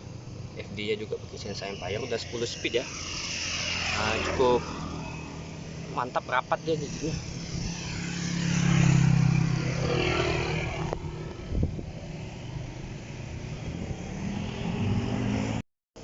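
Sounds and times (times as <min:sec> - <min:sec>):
engine running: 0:00.0 - 0:15.6
rising engine hum: 0:00.0 - 0:15.6.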